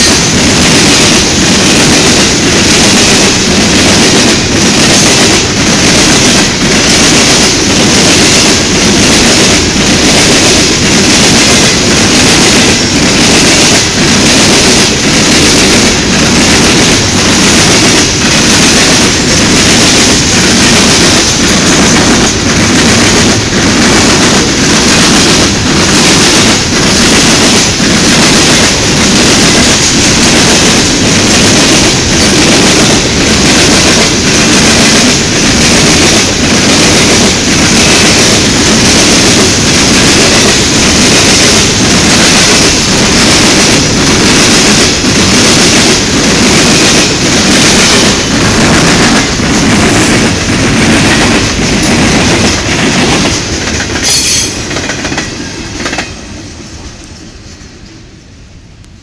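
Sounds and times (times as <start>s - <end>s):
wheels clickety-clack on rail joints: 0.0s - 58.1s
steel wheels rumbling on rail: 0.0s - 59.0s.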